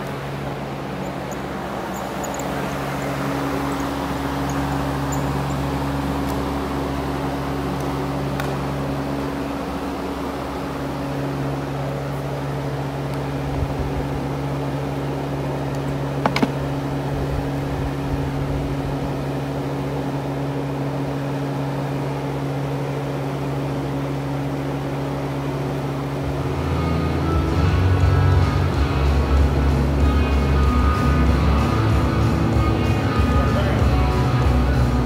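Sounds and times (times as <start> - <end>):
machine hum with whirring hiss: 0.0 - 35.0.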